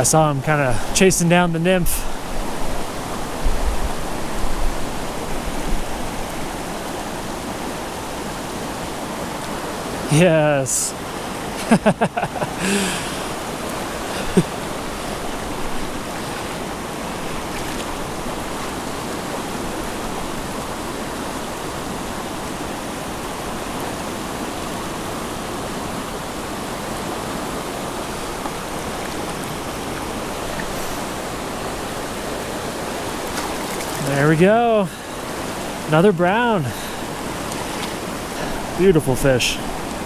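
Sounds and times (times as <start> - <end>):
creek water flowing: 0.0 - 40.0.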